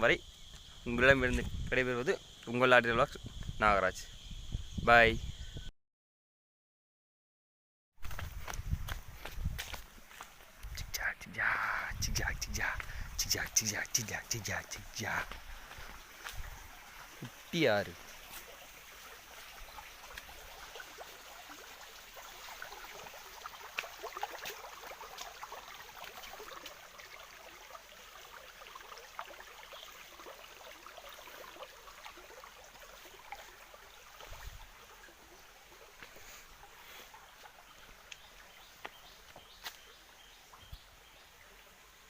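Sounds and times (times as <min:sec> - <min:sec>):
stream running over stones: 0:08.0 - 0:42.0.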